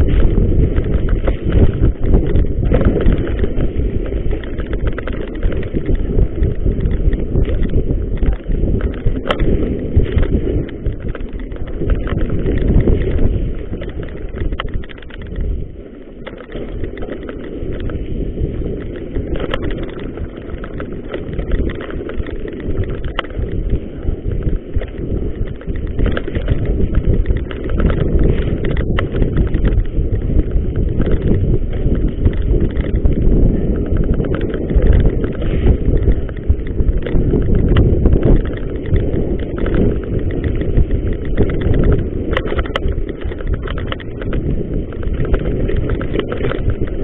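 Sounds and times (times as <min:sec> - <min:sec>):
bike rattling: 0:00.0 - 0:47.0
bike tyres rolling over stones: 0:00.0 - 0:47.0
sharp clicks and knocks: 0:00.0 - 0:47.0
wind rush on microphone: 0:00.0 - 0:47.0.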